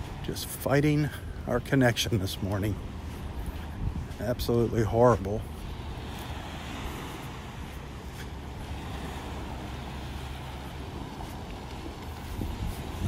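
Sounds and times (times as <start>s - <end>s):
small waves lapping on shore: 0.0s - 13.0s
wind rumbling on microphone: 0.0s - 13.0s.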